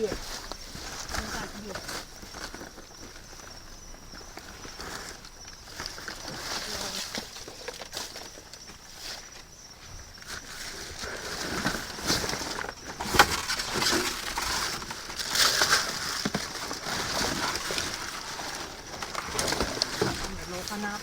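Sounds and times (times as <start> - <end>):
plastic bags rustling and crinkling: 0.0 - 21.0.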